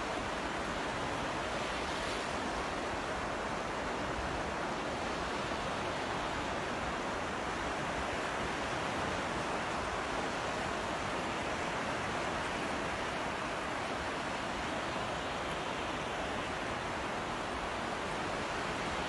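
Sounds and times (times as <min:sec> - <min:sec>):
ocean surf roaring: 0:00.0 - 0:19.0.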